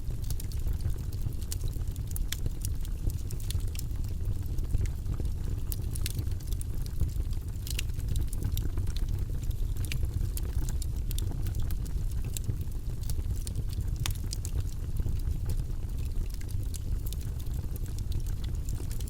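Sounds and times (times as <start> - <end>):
fire low rumble: 0.0 - 19.0
campfire crackling and popping: 0.1 - 19.0.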